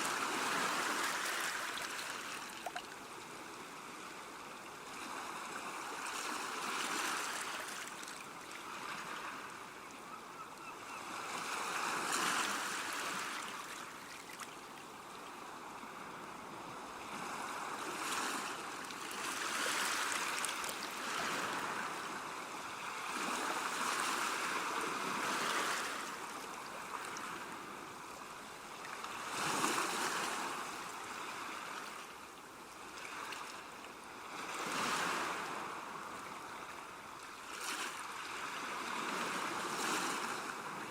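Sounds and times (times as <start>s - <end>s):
small waves washing on beach: 0.0s - 10.0s, 11.0s - 40.9s.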